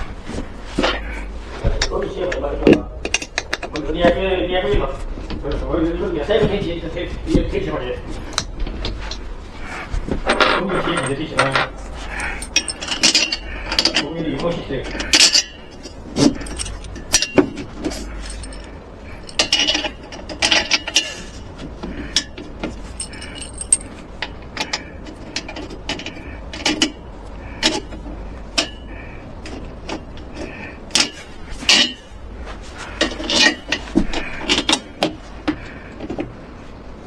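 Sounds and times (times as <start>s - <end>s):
scraping rustles: 0.0s - 36.9s.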